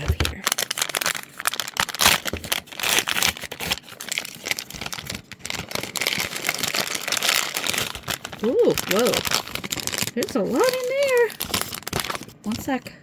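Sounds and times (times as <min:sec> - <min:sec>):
packaging crinkling: 0:00.0 - 0:12.9.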